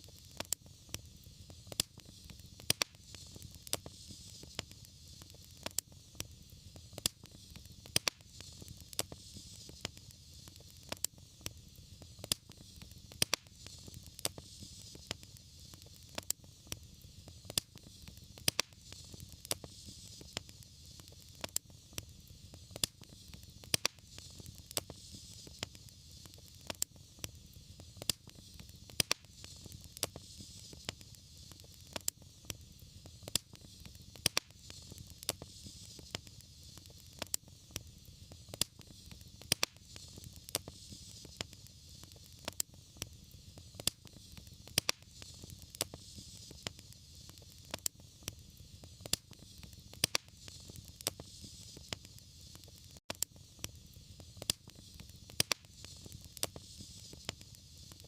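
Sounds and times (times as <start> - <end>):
soft hiss: 0.0 - 58.0
wood fire crackling and popping: 0.0 - 58.0.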